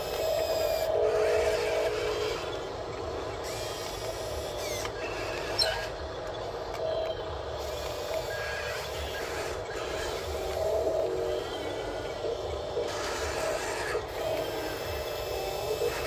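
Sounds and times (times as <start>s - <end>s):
small electric motors whining: 0.0s - 16.0s.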